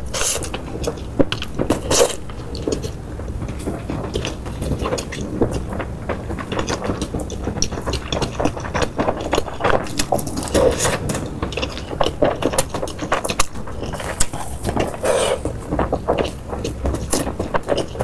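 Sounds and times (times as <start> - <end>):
chewing with crunches: 0.0 - 18.0
low background rumble: 0.0 - 18.0.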